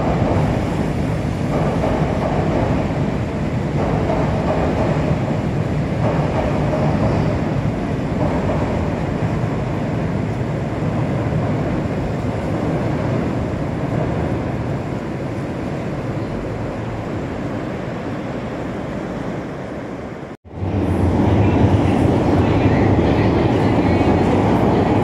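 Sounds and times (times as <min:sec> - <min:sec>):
train wheels on steel bridge: 0:00.0 - 0:25.0.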